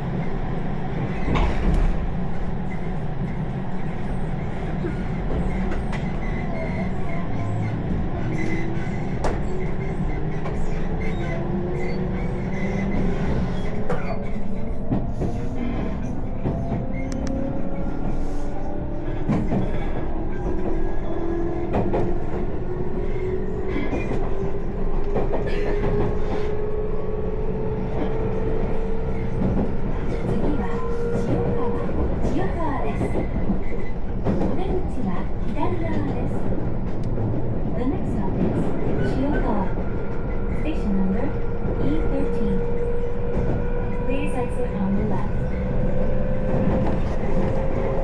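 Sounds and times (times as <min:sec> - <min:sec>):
train wheels rumbling: 0:00.0 - 0:48.0.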